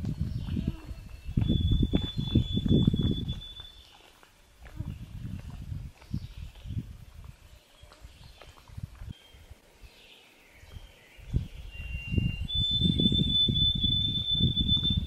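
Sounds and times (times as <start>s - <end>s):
wind gusting on microphone: 0.0s - 3.9s, 4.6s - 10.0s, 10.6s - 15.0s.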